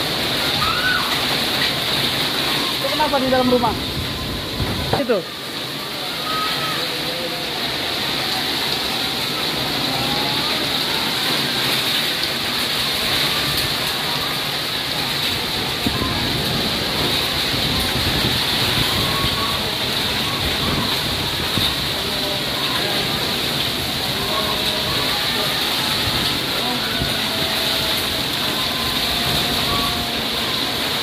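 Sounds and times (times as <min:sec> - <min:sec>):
strong wind: 0:00.0 - 0:06.8, 0:07.6 - 0:31.0
heavy rain: 0:00.0 - 0:31.0.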